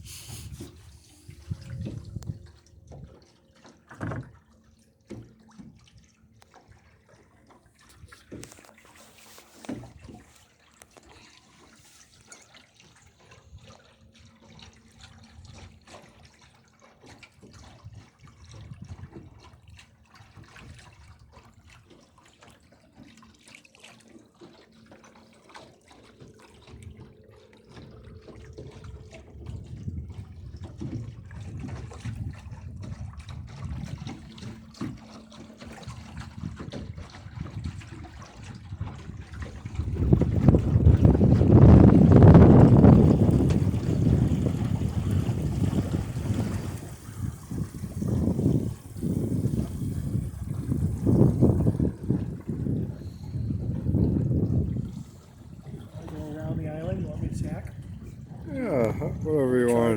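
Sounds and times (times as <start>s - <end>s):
water splashing against hull: 0.0s - 59.9s.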